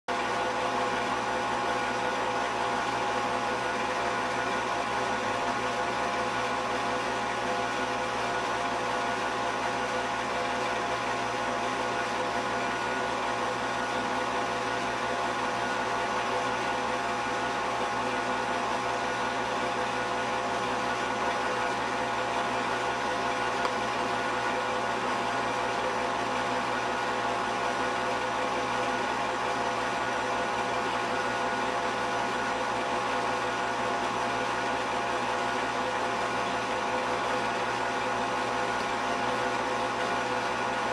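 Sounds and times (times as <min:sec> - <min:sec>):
film projector whirring: 0:00.1 - 0:40.9.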